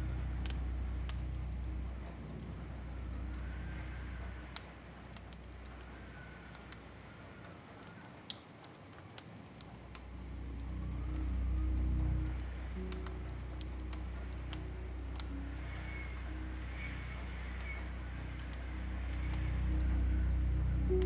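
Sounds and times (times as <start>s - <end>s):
low ambient drone: 0.0s - 7.6s, 9.9s - 21.0s
fireplace crackling and popping: 0.2s - 21.0s.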